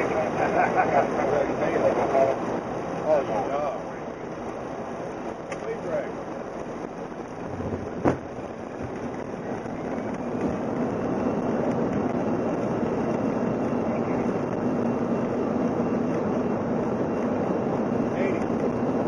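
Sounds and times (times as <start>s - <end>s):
jet engine and airflow rush: 0.0s - 19.0s.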